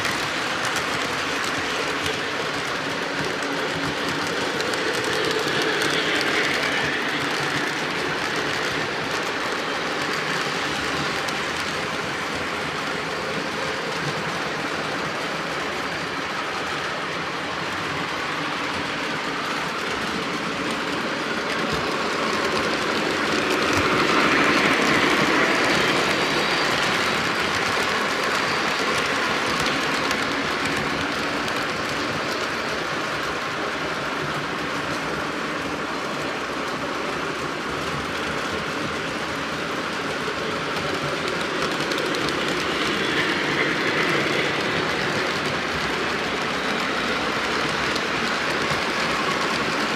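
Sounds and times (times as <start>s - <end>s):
model trains rumbling on track: 0.0s - 49.9s.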